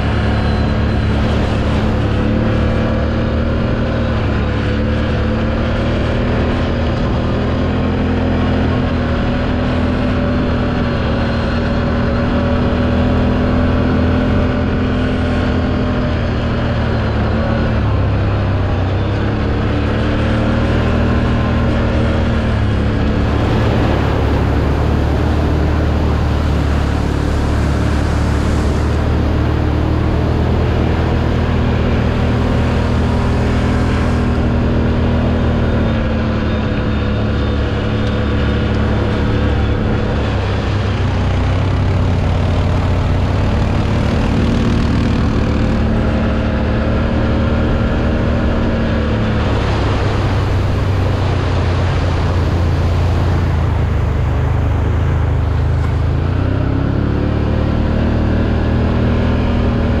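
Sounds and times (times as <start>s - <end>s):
engine revving while riding: 0.0s - 60.0s.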